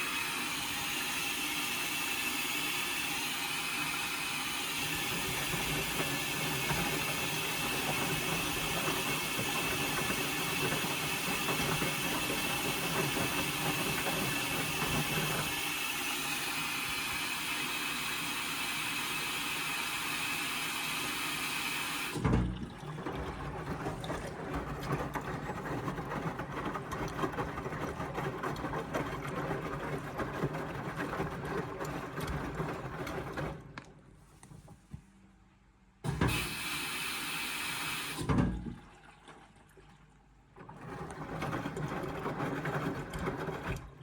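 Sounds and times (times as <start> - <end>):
washing machine rattling churn: 0.0 - 34.7, 36.1 - 37.0, 38.1 - 44.0
washing machine hissing whir: 0.0 - 34.9, 36.0 - 39.6, 40.4 - 44.0.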